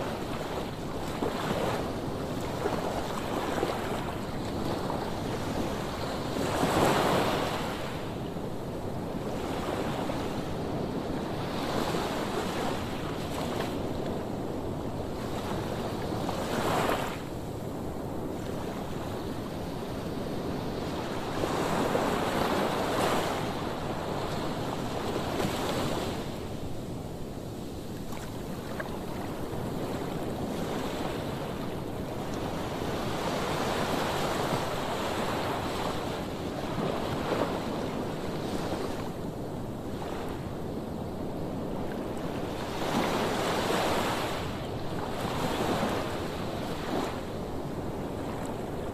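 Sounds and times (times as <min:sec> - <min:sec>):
waves washing onto shore: 0:00.0 - 0:48.9.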